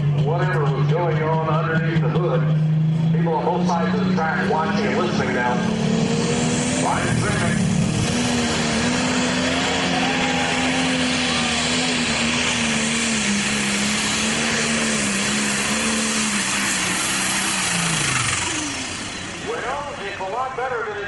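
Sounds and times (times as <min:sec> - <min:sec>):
diesel engine at full throttle: 0:00.0 - 0:21.0.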